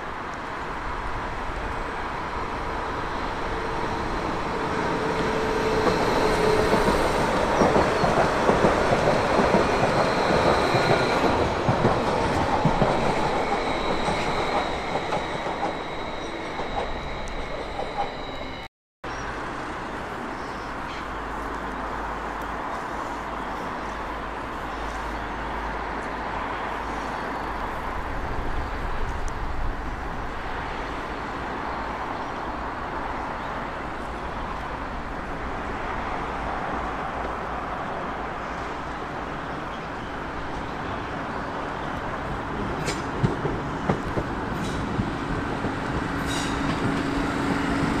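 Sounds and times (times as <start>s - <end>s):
train rumbling by: 0.0s - 48.0s.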